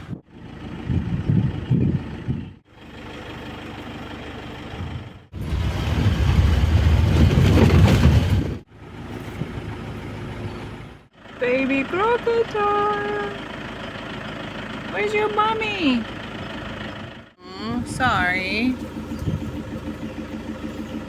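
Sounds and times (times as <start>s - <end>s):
jeep engine rumbling: 0.0s - 21.0s.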